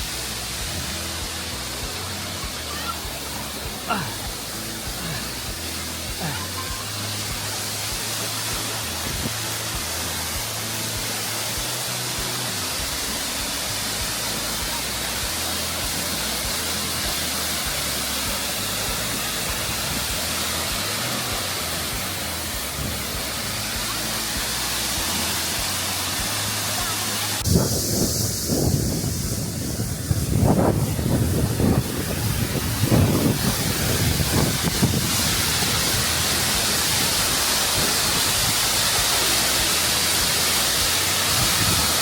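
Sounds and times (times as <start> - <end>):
background music with bass line: 0.0 - 42.0
waterfall rushing: 0.0 - 42.0.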